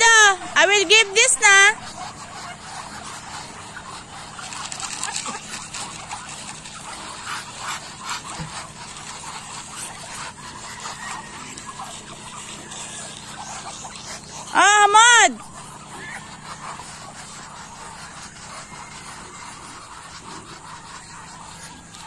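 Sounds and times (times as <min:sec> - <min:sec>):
ducks pecking feed: 0:00.0 - 0:22.0.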